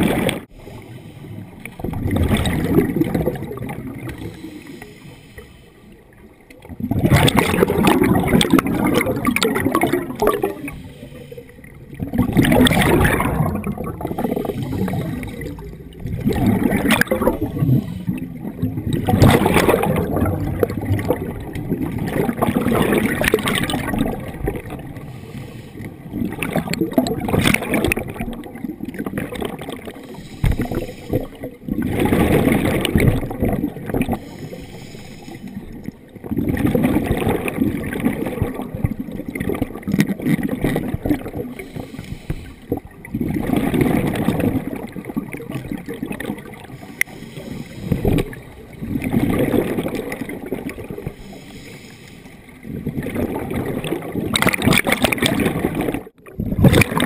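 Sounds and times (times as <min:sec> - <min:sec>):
underwater bubbles gurgling: 0:00.0 - 0:57.0.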